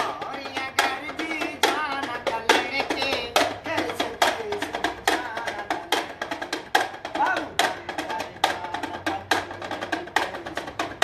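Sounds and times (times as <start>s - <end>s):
sharp dry drum beats: 0.0s - 11.0s.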